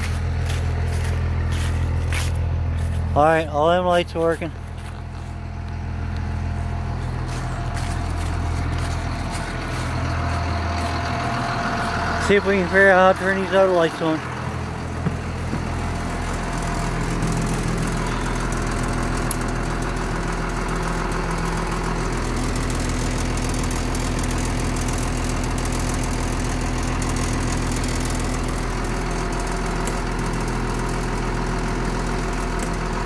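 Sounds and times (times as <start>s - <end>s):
bus engine idling: 0.0s - 33.0s.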